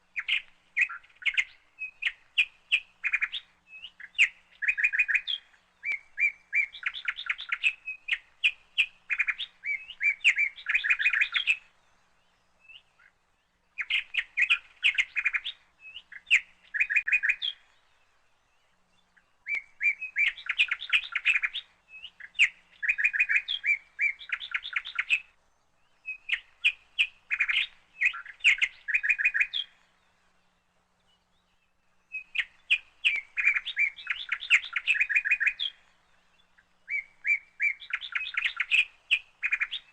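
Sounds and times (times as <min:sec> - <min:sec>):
bird chattering song: 0:00.1 - 0:39.9.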